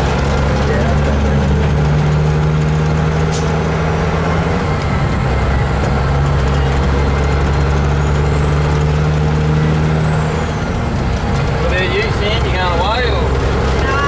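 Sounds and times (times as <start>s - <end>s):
road noise: 0.0s - 14.0s
truck diesel engine running: 0.0s - 14.0s.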